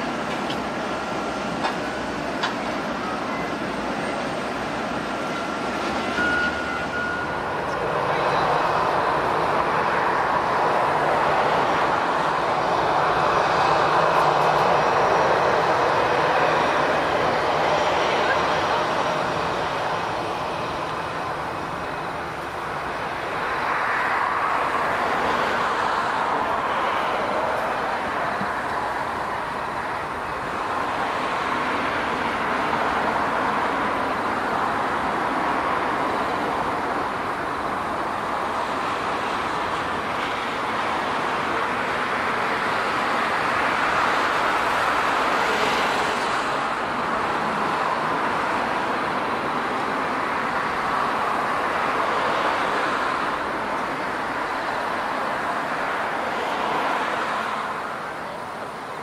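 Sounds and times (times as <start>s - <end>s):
engine rushing noise: 0.0s - 59.0s.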